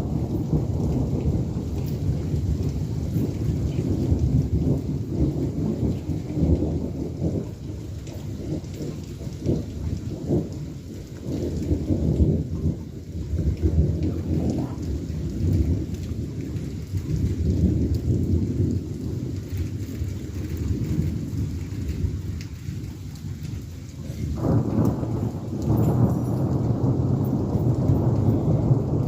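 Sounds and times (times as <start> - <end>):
steady rain: 0.0 - 29.0
thunder rumbling: 0.0 - 29.0.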